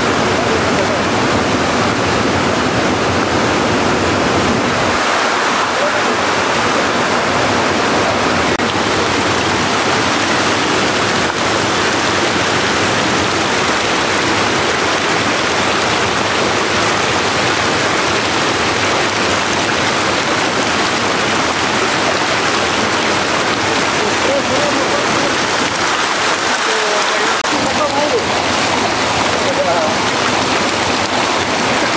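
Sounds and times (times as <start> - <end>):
running water rushing: 0.0 - 31.9.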